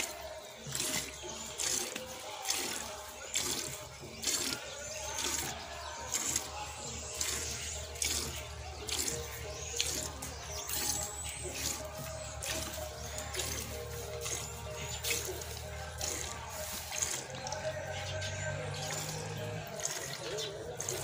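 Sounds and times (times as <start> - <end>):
milk squirting into bucket: 0.0 - 21.0.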